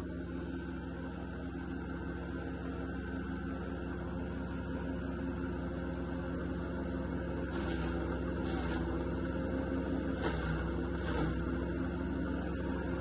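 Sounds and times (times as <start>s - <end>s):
wood chipper engine running: 0.0s - 13.0s.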